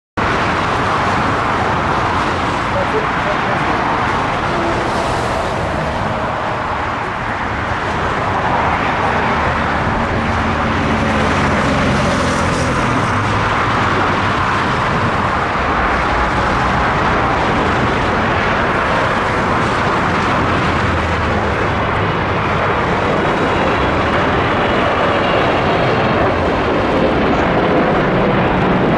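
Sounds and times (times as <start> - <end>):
jet airliner roar: 0.2 - 28.9.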